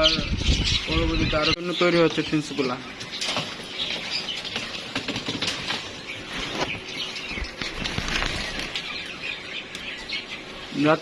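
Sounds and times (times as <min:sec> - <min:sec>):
birds fluttering wings in cages: 0:00.0 - 0:11.0
high bird chirps: 0:00.0 - 0:11.0.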